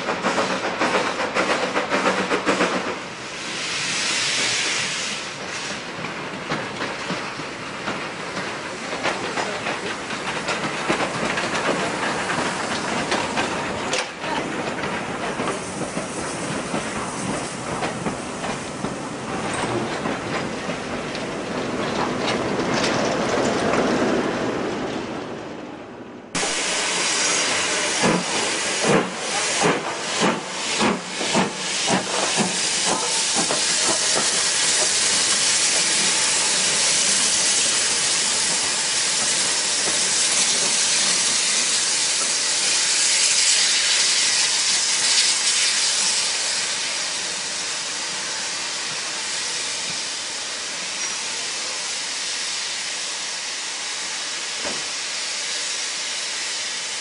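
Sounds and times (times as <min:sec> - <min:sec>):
hiss of escaping steam: 0:00.0 - 0:06.4, 0:07.0 - 0:19.7, 0:26.4 - 0:57.0
steam locomotive exhaust beats: 0:00.0 - 0:22.7, 0:26.4 - 0:57.0.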